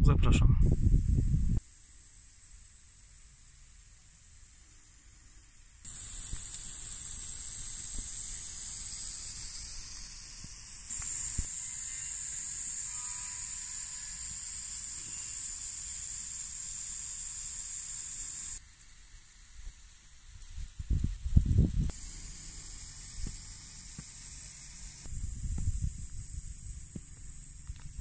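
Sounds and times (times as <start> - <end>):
sprinklers spraying water hiss: 1.6 - 11.6, 14.2 - 28.0.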